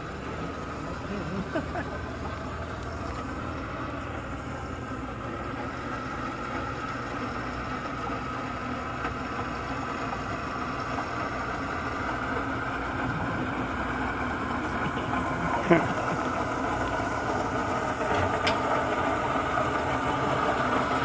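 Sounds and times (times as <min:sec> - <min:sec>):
helicopter turbine engine whine: 0:00.0 - 0:21.0.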